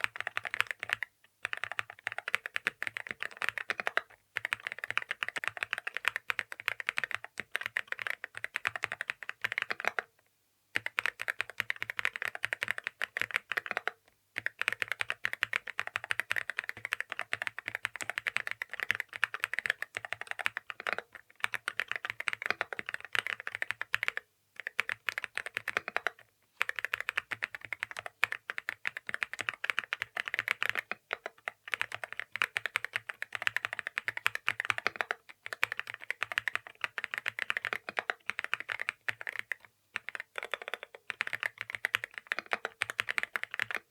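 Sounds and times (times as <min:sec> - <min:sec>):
mechanical keyboard typing: 0:00.0 - 0:10.1, 0:10.8 - 0:43.9.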